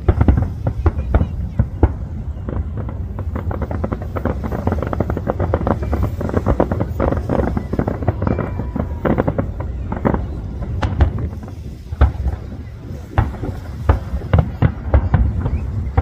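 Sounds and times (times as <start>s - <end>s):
fireworks bangs and crackles: 0.0s - 16.0s
low booms: 0.0s - 16.0s.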